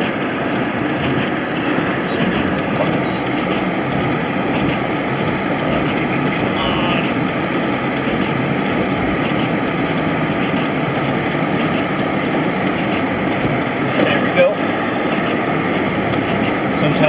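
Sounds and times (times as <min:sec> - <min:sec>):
in-cabin engine and road noise: 0:00.0 - 0:17.0.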